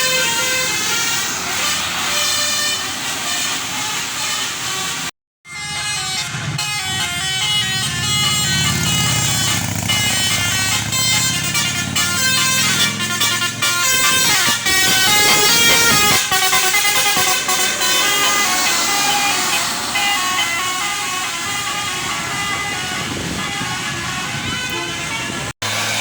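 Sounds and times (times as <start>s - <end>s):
musical air horn melody: 0.0s - 25.8s
bus engine rumble: 0.0s - 26.0s.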